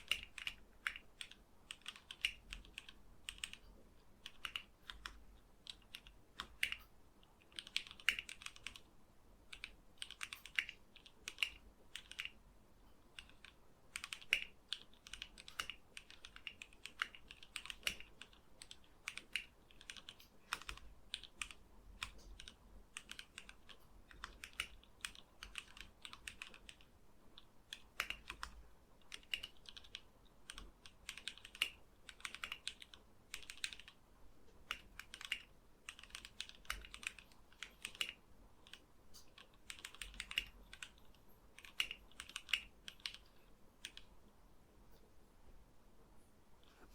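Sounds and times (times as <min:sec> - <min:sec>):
mechanical keyboard typing: 0:00.0 - 0:44.2.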